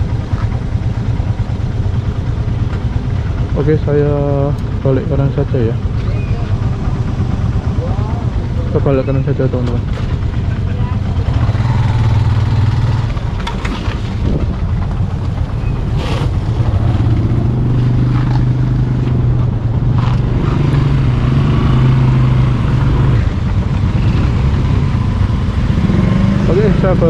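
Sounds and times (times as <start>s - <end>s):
motorcycle engine idling: 0.0s - 27.0s
other motorcycle engines: 0.0s - 27.0s.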